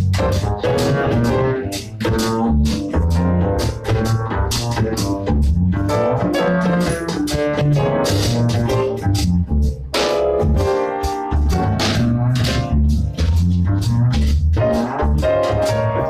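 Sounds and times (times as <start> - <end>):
bass line: 0.0 - 16.0
jazz piano: 0.0 - 16.0.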